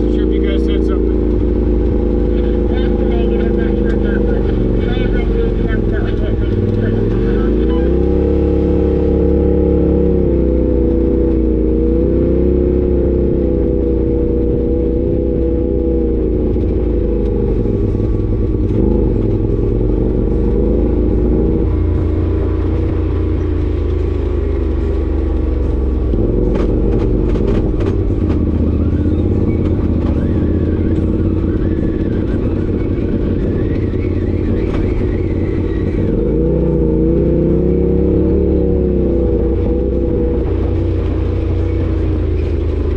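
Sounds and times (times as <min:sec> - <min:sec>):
vehicle engine revving: 0:00.0 - 0:42.9.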